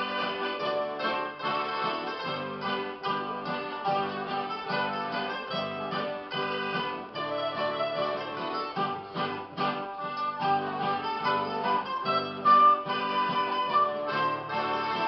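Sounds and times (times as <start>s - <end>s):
accordion: 0.0s - 15.0s
plucked mandolins: 0.0s - 15.0s.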